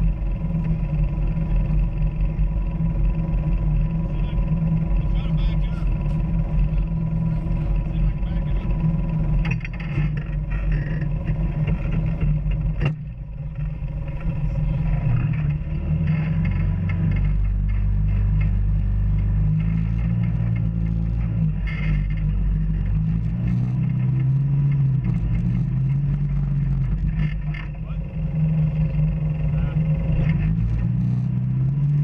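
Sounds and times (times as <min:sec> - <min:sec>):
off-road vehicle engine: 0:00.0 - 0:32.0.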